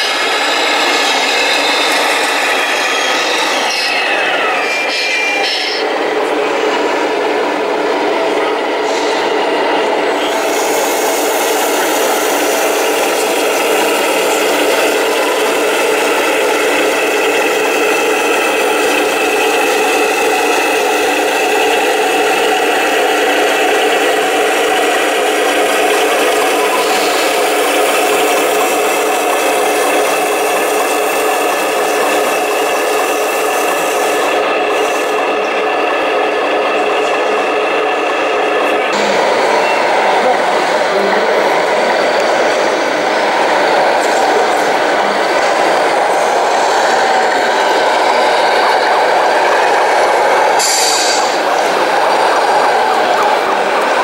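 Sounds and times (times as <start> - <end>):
mechanical drone: 0.0 - 6.5, 8.6 - 54.0.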